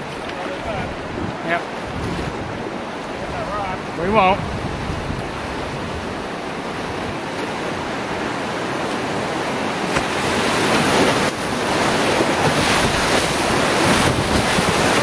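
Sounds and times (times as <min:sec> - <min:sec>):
whitewater rapids rushing: 0:00.0 - 0:15.0.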